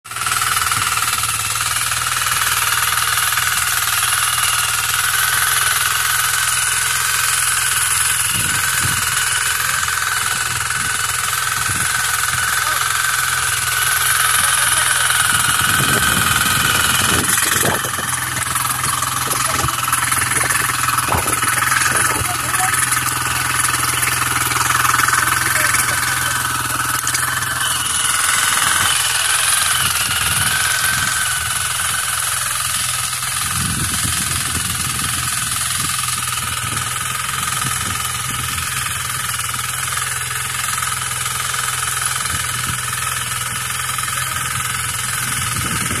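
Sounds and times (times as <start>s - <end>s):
small engine tilling soil: 0.0s - 46.0s
steady high whine: 0.3s - 46.0s.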